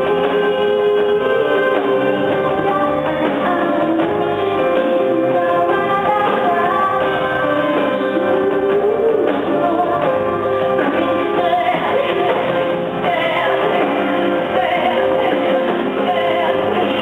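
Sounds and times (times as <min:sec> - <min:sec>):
live rock band with singing: 0:00.0 - 0:17.0.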